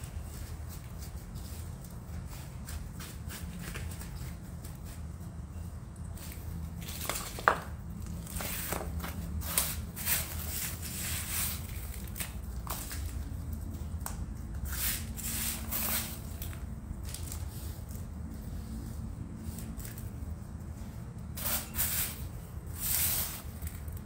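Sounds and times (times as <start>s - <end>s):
low steady hum: 0.0s - 24.0s
potting soil crunching and rustling: 0.0s - 24.0s.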